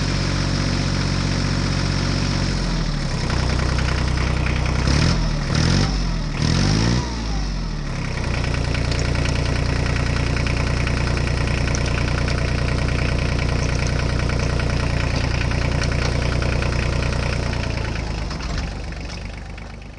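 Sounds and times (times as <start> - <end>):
tractor engine revving and idling: 0.0 - 19.9.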